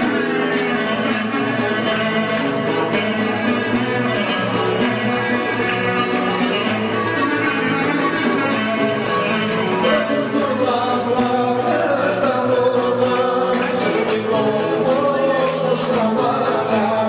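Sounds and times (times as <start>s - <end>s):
folk dance music with singing: 0.0s - 17.0s.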